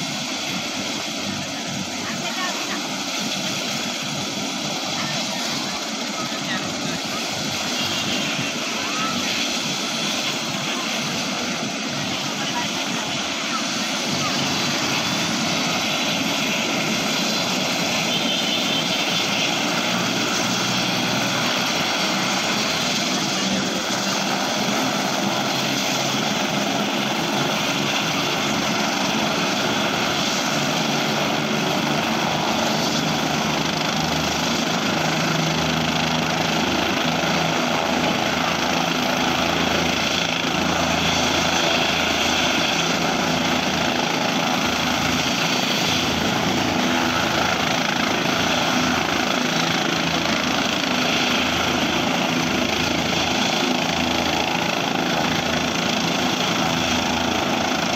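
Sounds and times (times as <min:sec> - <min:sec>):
helicopter engine and rotor: 0:00.0 - 0:57.9.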